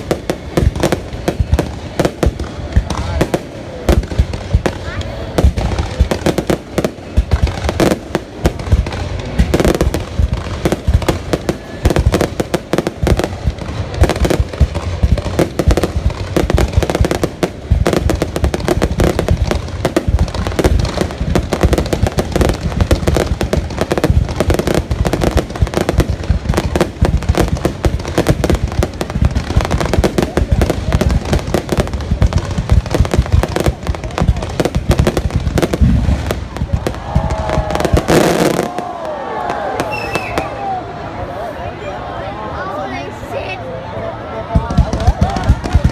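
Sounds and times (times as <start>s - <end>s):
fireworks bangs and crackles: 0.0s - 41.5s, 44.2s - 45.9s.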